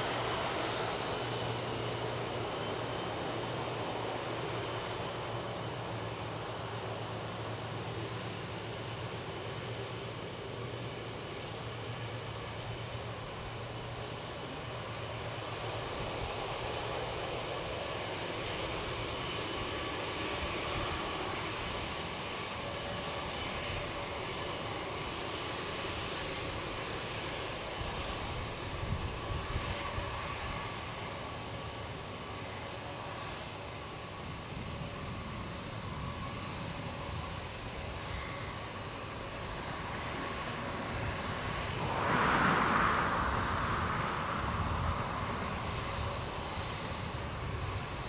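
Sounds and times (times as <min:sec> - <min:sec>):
jet engines running: 0:00.0 - 0:48.0.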